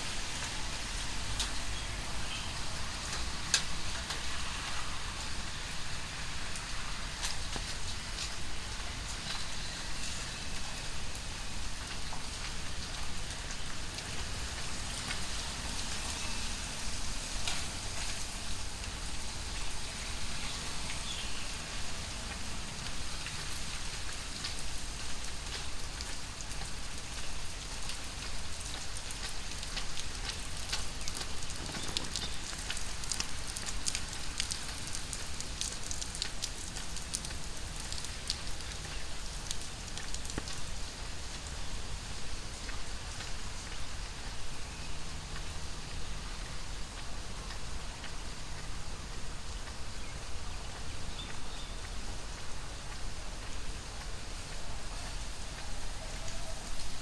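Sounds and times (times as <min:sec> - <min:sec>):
heavy rain hissing: 0:00.0 - 0:57.0
raindrops ticking sharply: 0:10.6 - 0:57.0.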